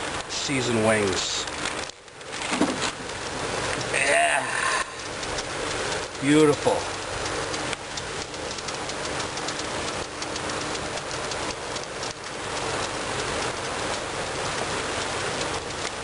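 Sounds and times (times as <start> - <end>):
chicken wings sizzling on grill: 2.9 - 16.0.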